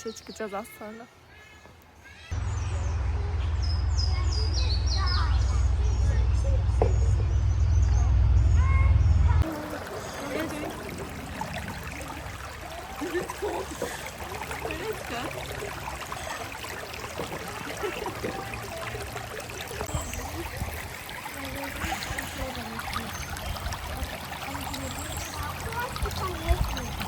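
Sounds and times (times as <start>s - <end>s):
stream running: 2.3s - 7.0s, 9.4s - 27.0s.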